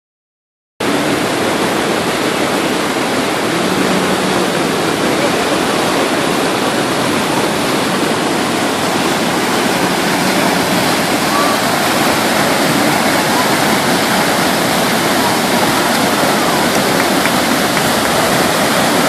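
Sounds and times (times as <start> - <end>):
waterfall rushing: 0.8 - 19.0.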